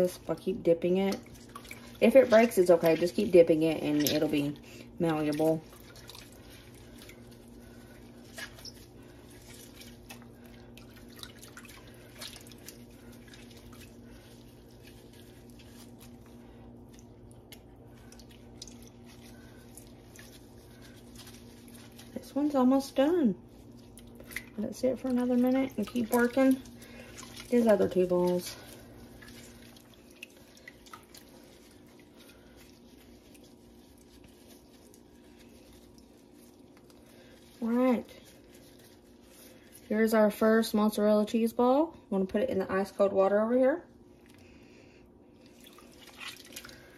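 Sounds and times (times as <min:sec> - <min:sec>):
whey dripping and splashing: 0:00.0 - 0:41.4, 0:45.4 - 0:46.9
steady low hum: 0:00.0 - 0:46.9.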